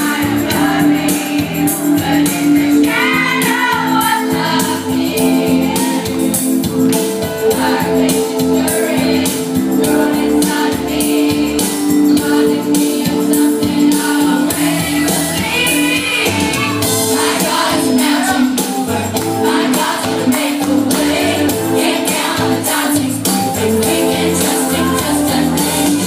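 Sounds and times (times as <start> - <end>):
tambourine-like beat: 0.0 - 26.0
youth choir singing: 0.0 - 26.0.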